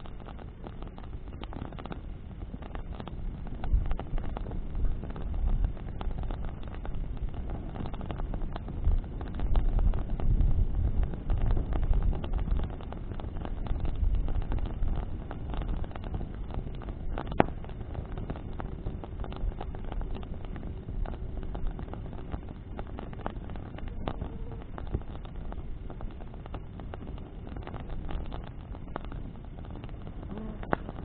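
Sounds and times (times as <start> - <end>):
bonfire crackling and popping: 0.0 - 31.0
rush of flames: 0.0 - 31.0
wind: 0.0 - 31.0.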